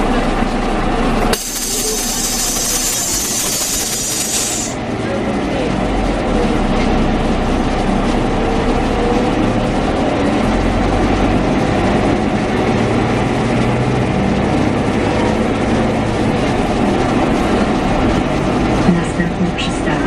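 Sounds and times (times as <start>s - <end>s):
bus engine running: 0.0s - 20.0s
rumble of road noise: 0.0s - 20.0s.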